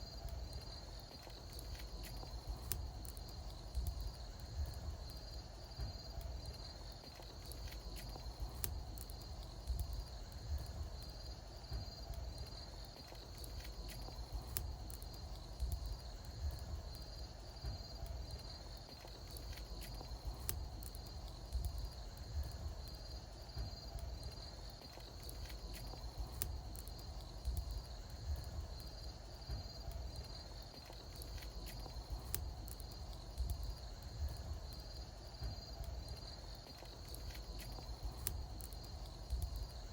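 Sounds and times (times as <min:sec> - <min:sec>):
bonfire crackling and popping: 0:00.0 - 0:39.9
crickets trilling: 0:00.0 - 0:39.9.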